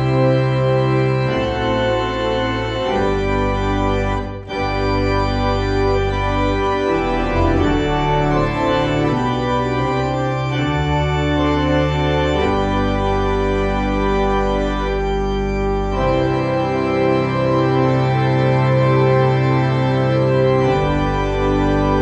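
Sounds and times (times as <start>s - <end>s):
organ playing slow chords: 0.0s - 22.0s.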